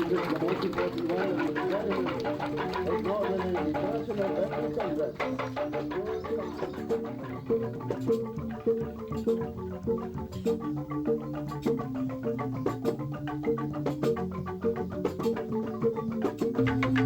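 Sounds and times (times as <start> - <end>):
tuned mallet percussion music: 0.0 - 17.0.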